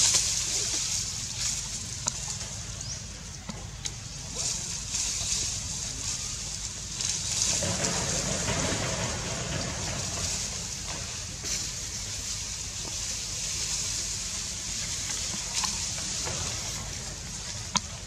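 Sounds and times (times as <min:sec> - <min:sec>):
low rumble: 0:00.0 - 0:18.0
outdoor hiss: 0:00.0 - 0:18.0.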